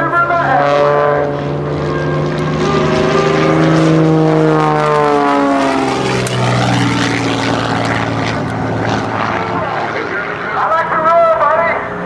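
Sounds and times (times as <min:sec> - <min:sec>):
plane engine and propeller: 0:00.0 - 0:12.0.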